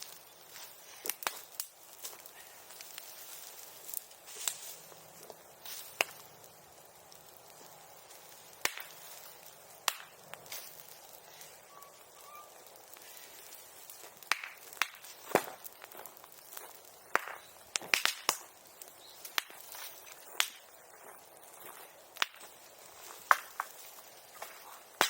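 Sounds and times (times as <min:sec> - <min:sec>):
bamboo popping cracks: 0:00.0 - 0:11.4, 0:12.4 - 0:20.7, 0:22.1 - 0:25.0
bonfire burning: 0:00.0 - 0:25.0.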